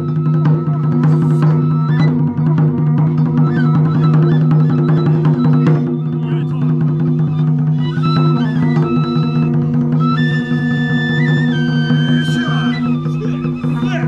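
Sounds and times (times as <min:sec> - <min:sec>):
high melody: 0:00.0 - 0:14.0.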